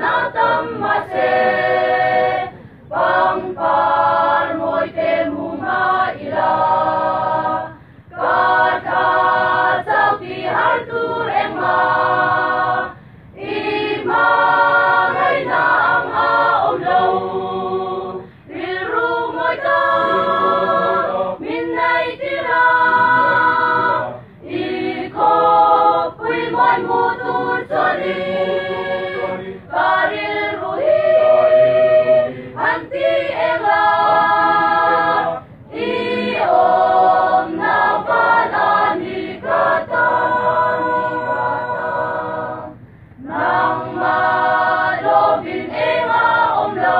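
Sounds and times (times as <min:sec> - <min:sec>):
mixed choir singing a cappella: 0:00.0 - 0:46.9.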